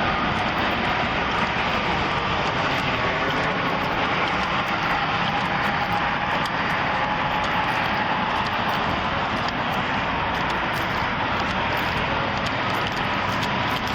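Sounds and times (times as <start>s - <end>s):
highway traffic rushing: 0.0s - 13.9s.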